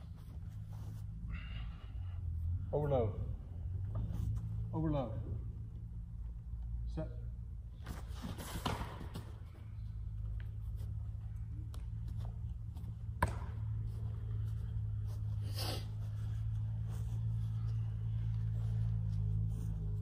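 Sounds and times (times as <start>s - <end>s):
low room tone hum: 0.0s - 20.0s.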